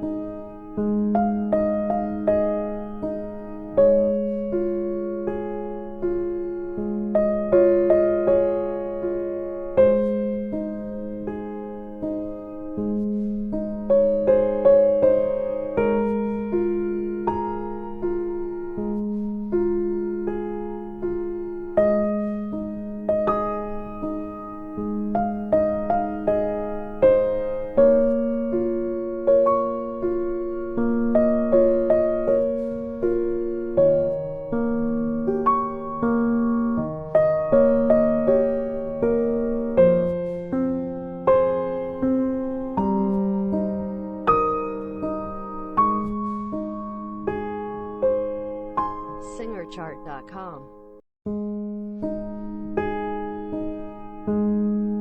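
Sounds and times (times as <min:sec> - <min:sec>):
gentle piano melody: 0:00.0 - 0:55.0.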